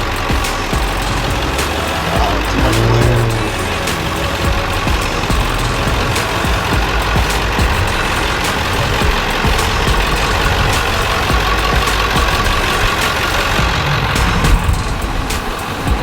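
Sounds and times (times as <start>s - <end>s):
music playing: 0.0s - 16.0s
vehicle engine rumbling: 0.0s - 16.0s.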